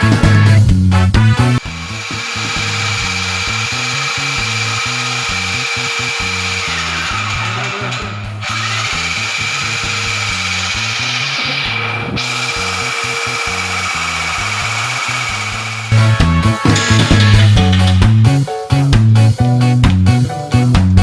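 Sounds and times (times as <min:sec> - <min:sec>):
background music: 0:00.0 - 0:21.0
power drill whining: 0:01.2 - 0:18.2.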